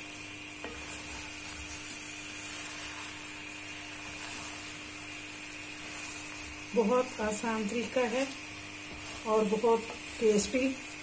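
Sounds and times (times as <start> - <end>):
curry sizzling in a pan: 0.0 - 11.0
wooden spoon stirring: 0.0 - 11.0.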